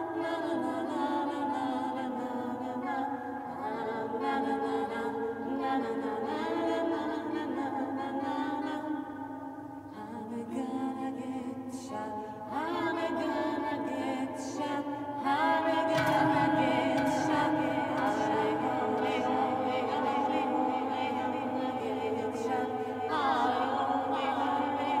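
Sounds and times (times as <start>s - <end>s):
voices chanting in harmony: 0.0s - 25.0s.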